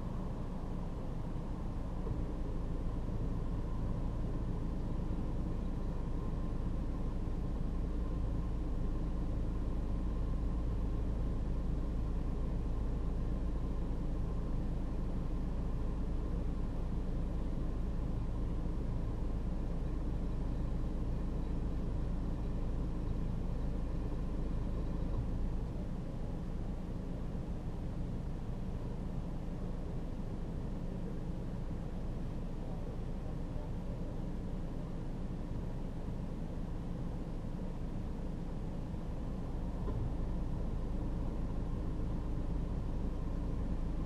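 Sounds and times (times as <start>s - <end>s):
faint constant whine: 0.0s - 44.0s
vehicle engine idling: 0.0s - 44.0s.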